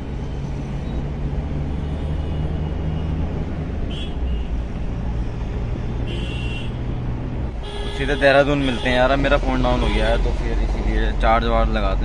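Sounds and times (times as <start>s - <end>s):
car engine hum: 0.0s - 12.0s
tyre road noise: 0.0s - 12.0s.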